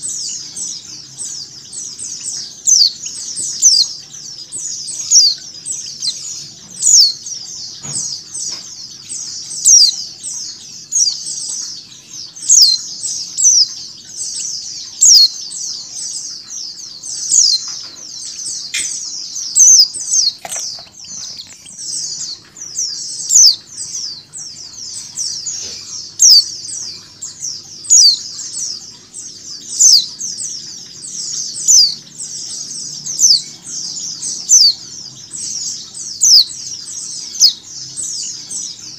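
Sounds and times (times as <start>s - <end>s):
flock of birds twittering: 0.0s - 38.9s
loud falling bird chirp: 0.0s - 38.9s.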